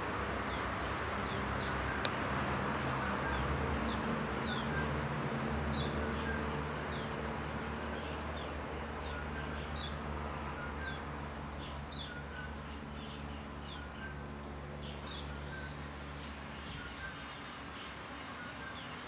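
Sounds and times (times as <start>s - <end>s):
small birds chirping: 0.3s - 19.0s.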